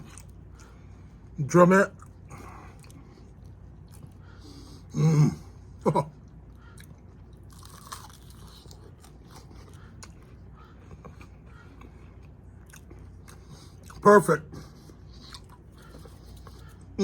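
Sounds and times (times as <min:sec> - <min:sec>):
person chewing crispy chicken: 0:00.0 - 0:01.4, 0:02.0 - 0:04.8, 0:06.1 - 0:17.0
low steady hum: 0:00.0 - 0:17.0.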